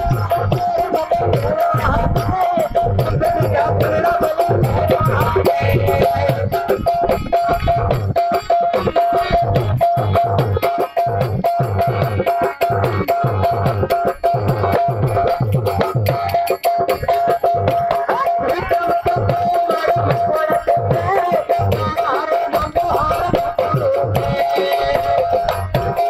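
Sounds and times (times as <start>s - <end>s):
rattling percussion: 0.0s - 26.0s
steady drum beat: 0.0s - 26.0s.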